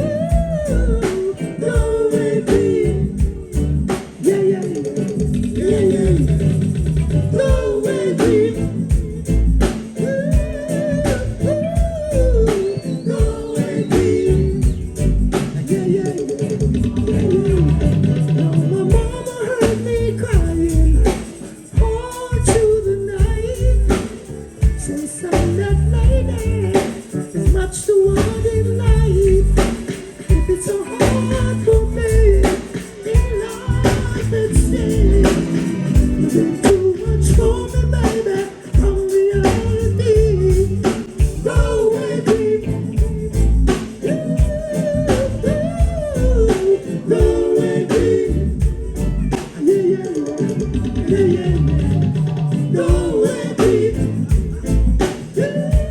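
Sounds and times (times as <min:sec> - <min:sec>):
live reggae band: 0:00.0 - 0:55.9
person singing: 0:00.0 - 0:55.9.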